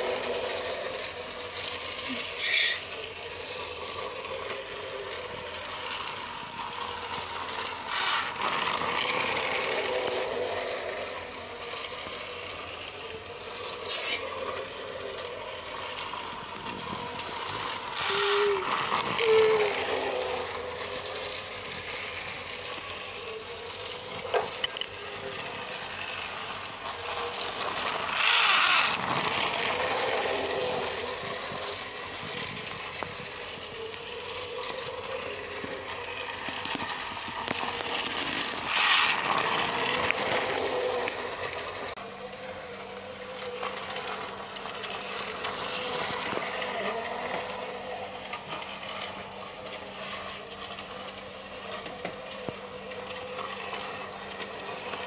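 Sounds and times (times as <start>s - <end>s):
toy train motor whirring: 0.0s - 55.0s
wheels rattling over track: 0.0s - 55.0s.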